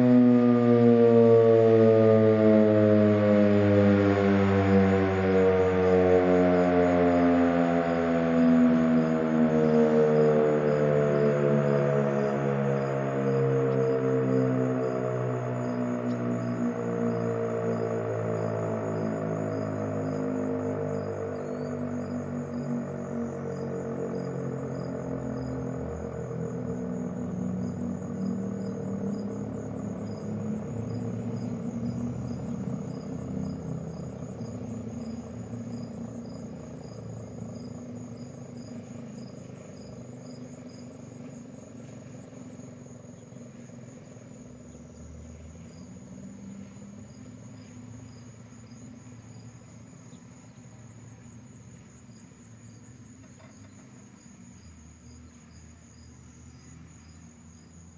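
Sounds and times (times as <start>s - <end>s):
fire siren winding down: 0.0s - 48.6s
crickets chirping: 0.0s - 57.9s.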